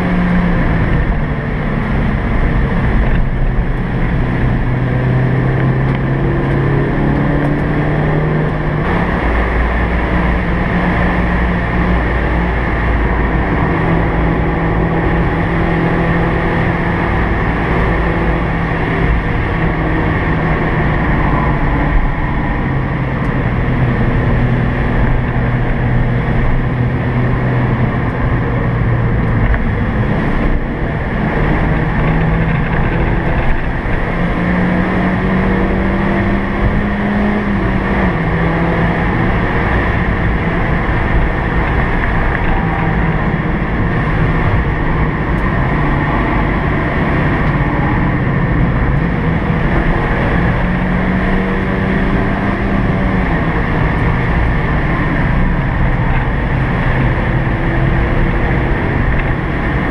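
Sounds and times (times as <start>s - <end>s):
car engine running hard: 0.0s - 59.9s
road and wind noise: 0.0s - 59.9s.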